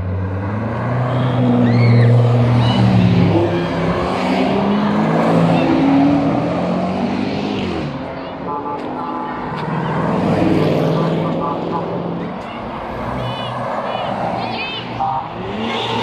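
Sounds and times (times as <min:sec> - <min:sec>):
rally cars driving past: 0:00.0 - 0:16.0.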